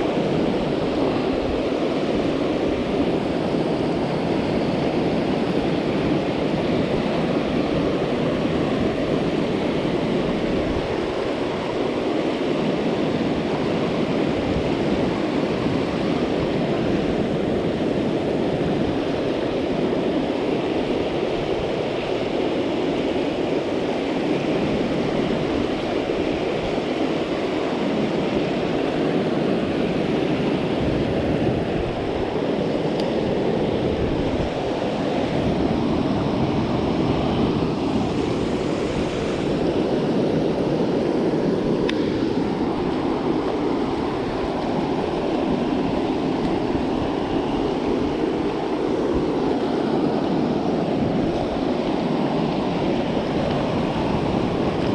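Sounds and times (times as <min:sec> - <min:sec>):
stream rushing: 0:00.0 - 0:54.9.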